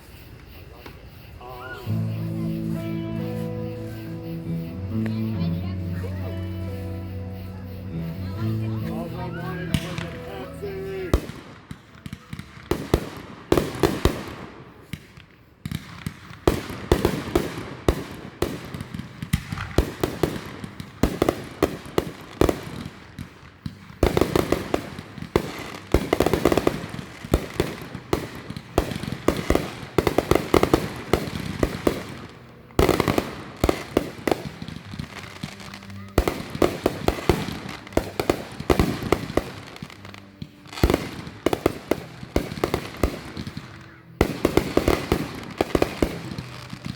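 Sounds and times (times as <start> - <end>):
fireworks bangs and crackling pops: 8.3 - 46.9.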